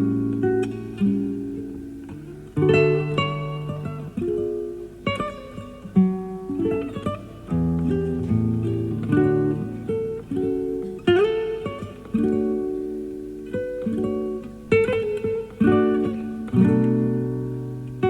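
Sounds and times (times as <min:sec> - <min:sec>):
classical guitar playing: 0:00.0 - 0:18.0.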